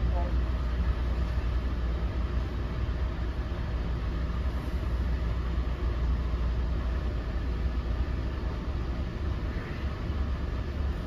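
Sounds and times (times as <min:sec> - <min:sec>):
rail coach rumble: 0:00.0 - 0:11.0.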